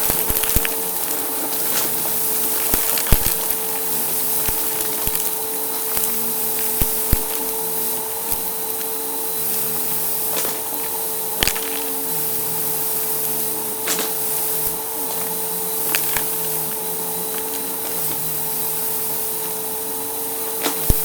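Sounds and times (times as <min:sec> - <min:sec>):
debris crunching ticks: 0:00.0 - 0:09.0, 0:09.8 - 0:19.6
vacuum cleaner running: 0:00.0 - 0:21.0.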